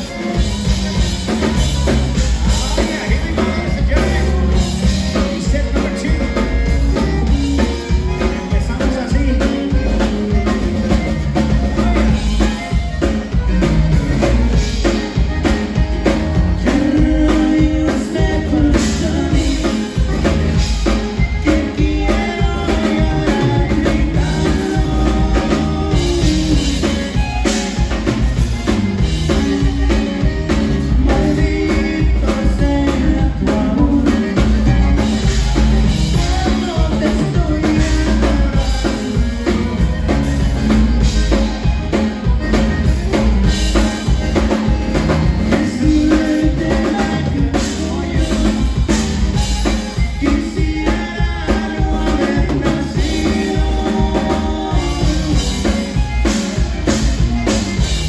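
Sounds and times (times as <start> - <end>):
bajo sexto guitar: 0.0 - 58.0
button accordion: 0.0 - 58.0
electric bass: 0.0 - 58.0
steady drum beat: 0.0 - 58.0.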